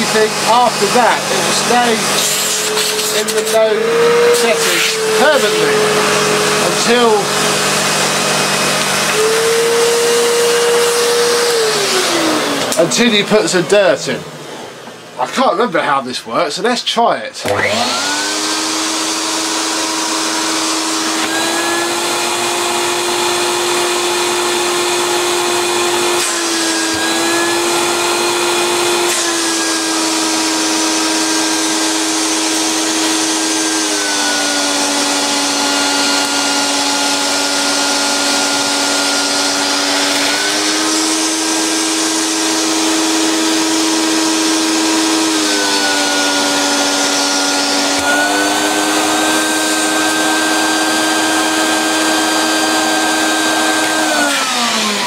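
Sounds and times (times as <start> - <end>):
vacuum cleaner motor whine: 0.0 - 15.1, 17.4 - 55.0.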